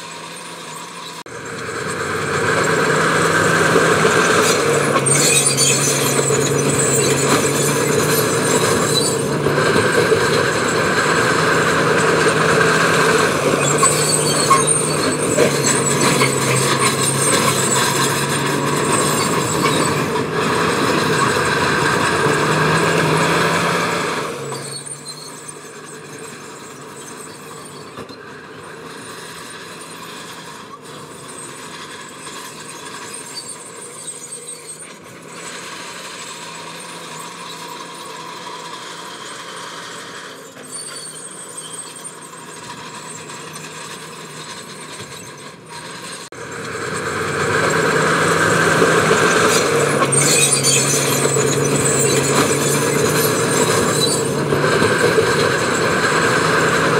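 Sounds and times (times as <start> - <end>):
harsh grinding noise: 0.0 - 56.9
heavy diesel machine engine: 0.0 - 56.9.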